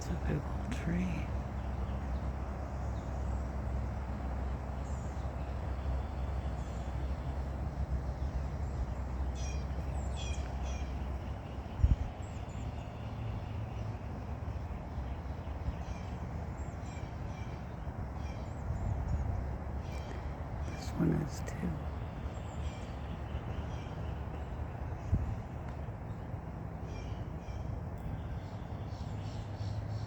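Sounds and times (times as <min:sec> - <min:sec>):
wild birds calling: 0:00.0 - 0:25.5, 0:26.1 - 0:30.0.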